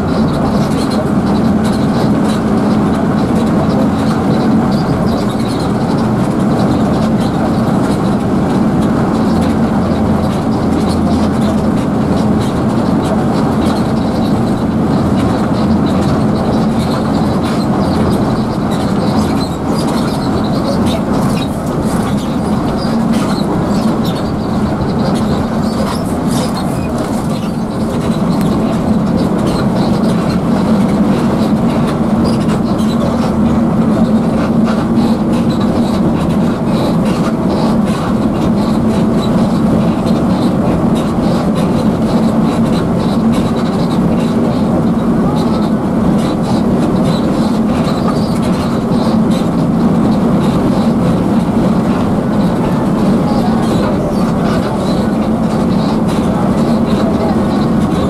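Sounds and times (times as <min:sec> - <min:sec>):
bus engine and road noise: 0:00.0 - 0:58.0
steady low hum: 0:00.0 - 0:58.0.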